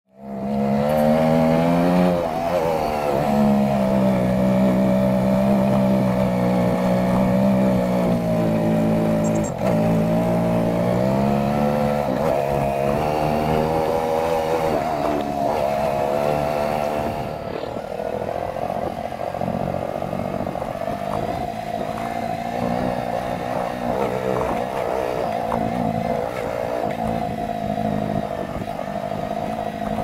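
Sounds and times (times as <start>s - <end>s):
road and wind noise: 0.1s - 30.0s
motorbike engine running: 0.2s - 30.0s.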